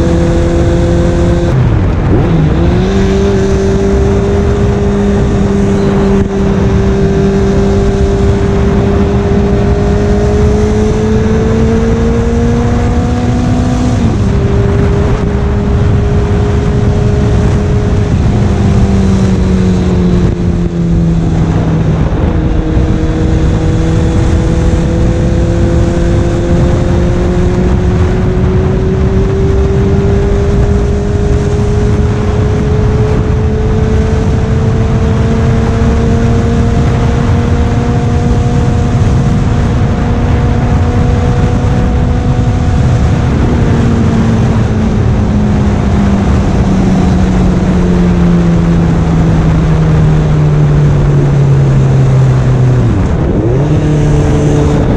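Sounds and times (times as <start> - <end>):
motorcycle engine while riding: 0.0 - 54.9
wind noise on microphone: 0.0 - 54.9.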